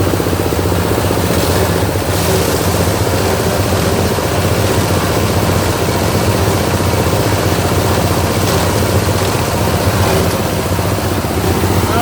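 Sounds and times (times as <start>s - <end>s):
grinding machine running: 0.0s - 12.0s.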